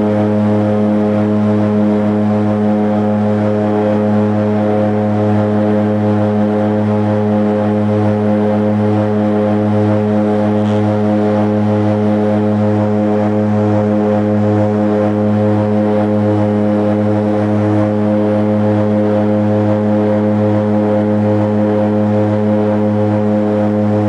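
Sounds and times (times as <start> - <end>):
propeller engine drone in cabin: 0.0 - 24.0.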